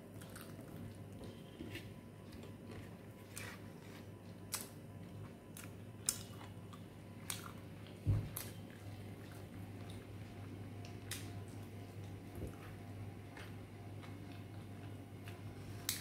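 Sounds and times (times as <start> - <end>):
chewing and squishing food: 0.0 - 16.0
steady low hum: 0.0 - 16.0.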